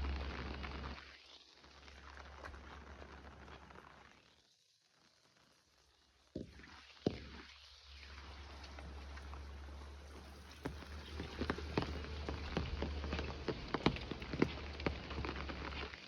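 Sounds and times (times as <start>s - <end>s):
rain falling: 0.0s - 4.4s, 6.2s - 16.0s.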